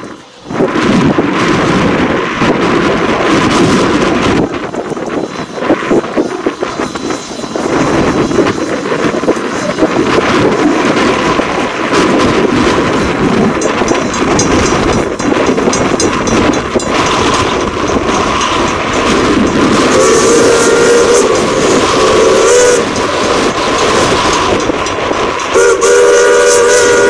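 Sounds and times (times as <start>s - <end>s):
steam locomotive running by: 0.0s - 27.0s
wind buffeting microphone: 0.0s - 27.0s.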